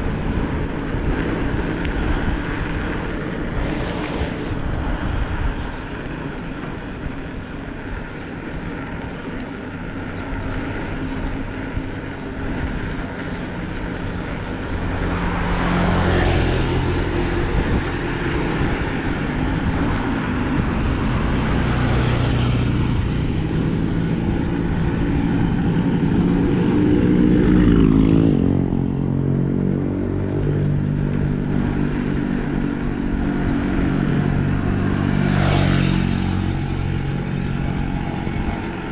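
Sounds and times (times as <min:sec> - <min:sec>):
bicycle tires rolling on road: 0:00.0 - 0:38.9
motor vehicles passing: 0:00.0 - 0:38.9.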